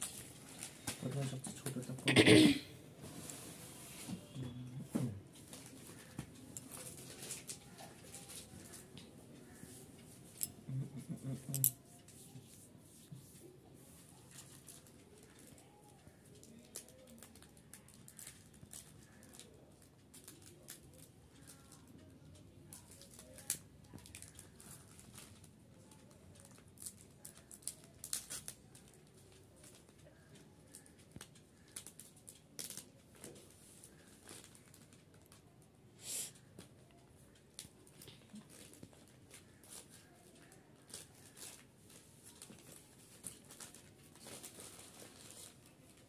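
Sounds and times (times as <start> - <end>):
plastic bag crinkling and crackling: 0.0 - 2.0, 5.3 - 12.2, 13.9 - 35.8, 36.4 - 46.0.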